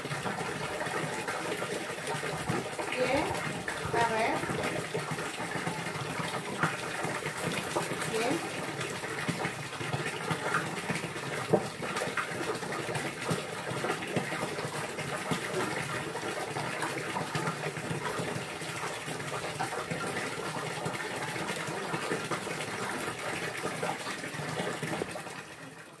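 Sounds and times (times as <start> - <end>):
gushing splashing water: 0.0 - 26.0.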